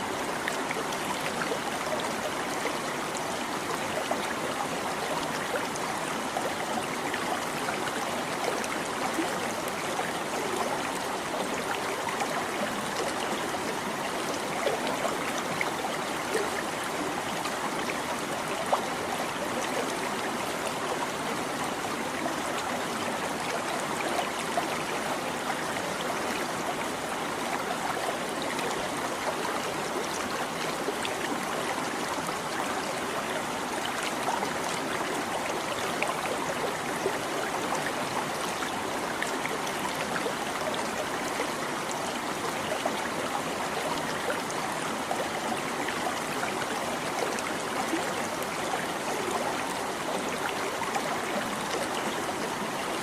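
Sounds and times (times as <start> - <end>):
small stream babbling: 0.0 - 53.0.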